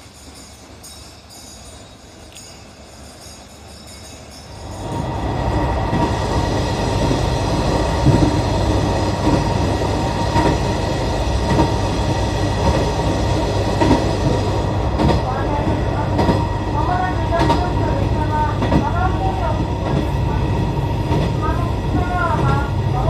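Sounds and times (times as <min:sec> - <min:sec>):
train rumbling on board: 0:00.0 - 0:23.0.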